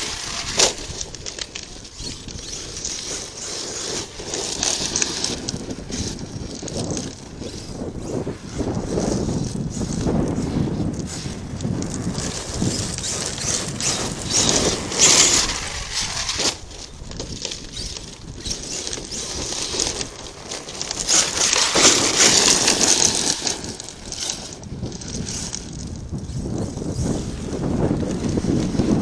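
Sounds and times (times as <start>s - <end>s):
electric rc truck running: 0.0s - 29.0s
tyres crunching dirt: 0.0s - 29.0s.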